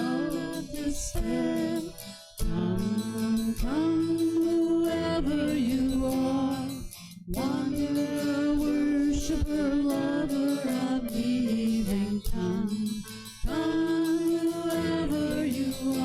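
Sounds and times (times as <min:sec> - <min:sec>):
voices singing a slow hymn: 0:00.0 - 0:06.7, 0:07.3 - 0:16.0
strummed acoustic guitar: 0:00.0 - 0:16.0.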